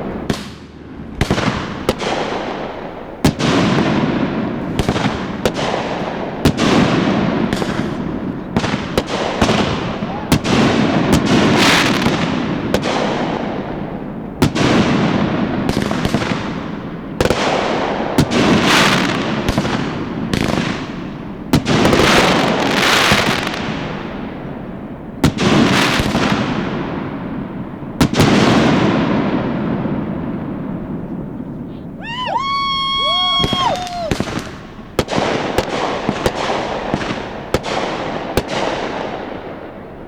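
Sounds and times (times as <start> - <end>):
fireworks bursting with bangs: 0.0 - 40.0
rumble and hiss of fireworks: 0.0 - 40.0.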